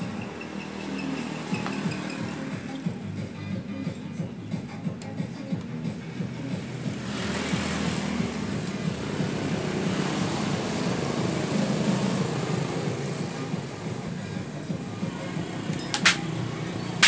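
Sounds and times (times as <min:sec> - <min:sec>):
vehicle engine running: 0:00.0 - 0:03.8, 0:05.7 - 0:17.0.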